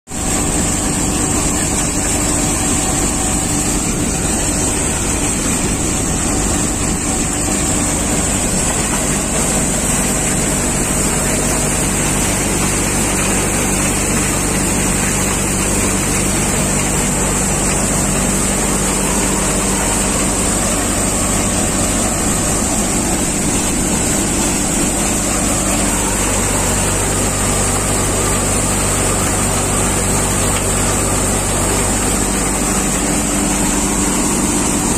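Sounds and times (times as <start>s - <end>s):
thresher engine drone: 0.1s - 34.9s.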